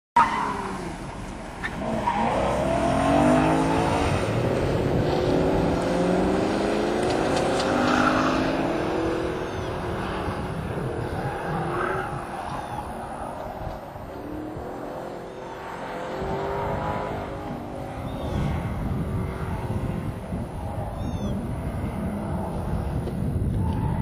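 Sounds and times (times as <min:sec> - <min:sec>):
car engine revving: 0:00.2 - 0:24.0.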